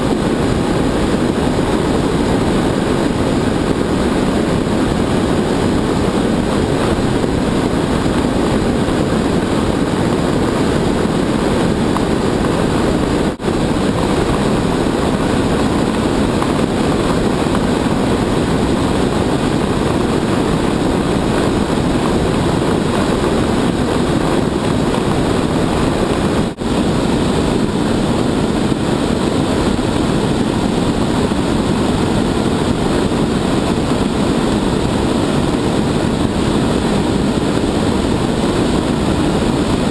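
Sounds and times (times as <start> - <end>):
rushing wind noise: 0.0 - 39.9.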